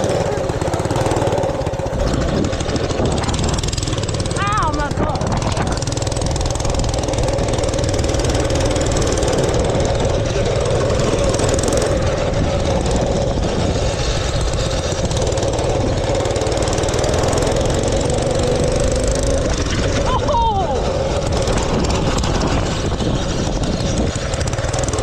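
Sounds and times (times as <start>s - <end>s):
heavy low rumble: 0.0s - 25.0s
small engine running: 0.0s - 25.0s.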